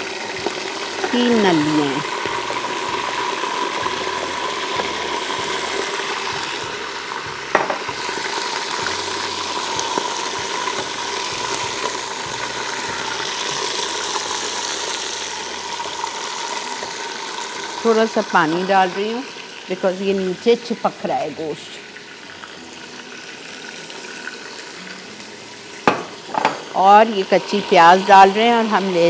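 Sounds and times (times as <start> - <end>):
meat sizzling in oil: 0.0 - 29.0.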